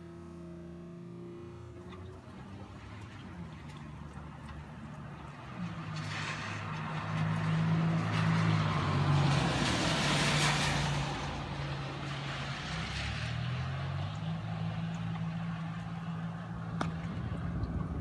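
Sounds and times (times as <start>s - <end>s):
motor vehicle passing: 0.0s - 18.0s.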